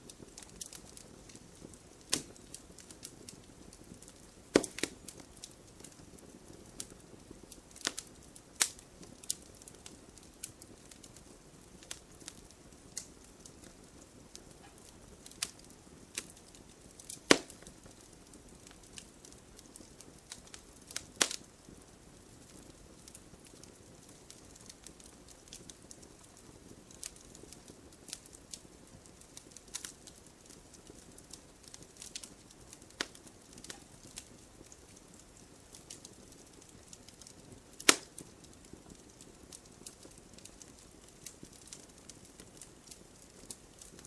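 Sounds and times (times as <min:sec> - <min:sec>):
soft steady hiss: 0:00.0 - 0:44.0
wood fire popping and snapping: 0:00.0 - 0:44.0.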